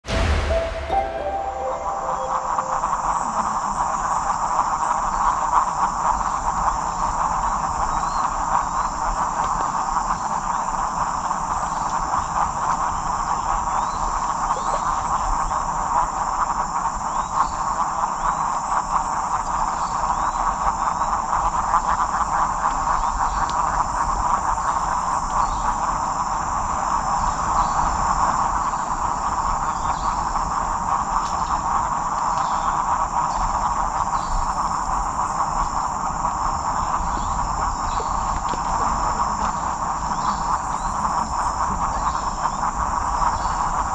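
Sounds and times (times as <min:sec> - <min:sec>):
frogs calling: 0:00.1 - 0:43.9.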